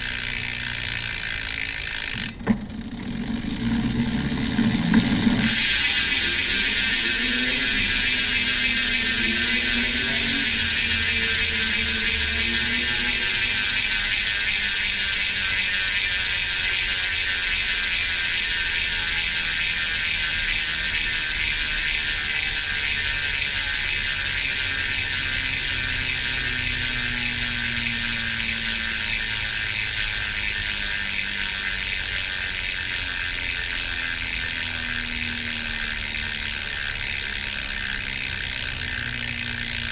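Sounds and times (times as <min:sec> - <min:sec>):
bicycle freehub clicking: 0:00.0 - 0:39.9.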